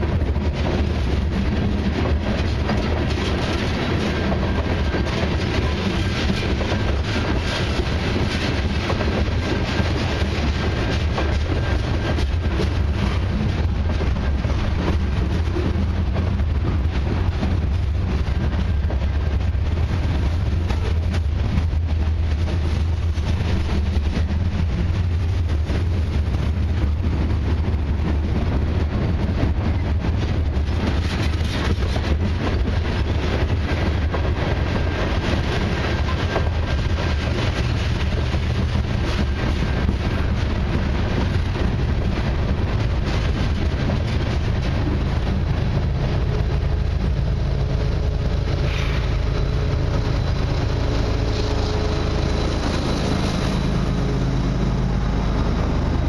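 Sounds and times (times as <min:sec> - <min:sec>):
diesel locomotive engine hum: 0:00.0 - 0:56.0
freight train wheels rumbling: 0:00.0 - 0:56.0.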